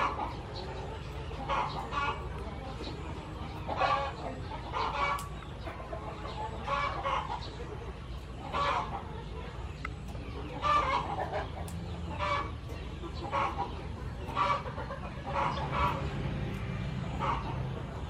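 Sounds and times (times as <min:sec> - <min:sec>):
bird clucking: 0:00.0 - 0:18.0.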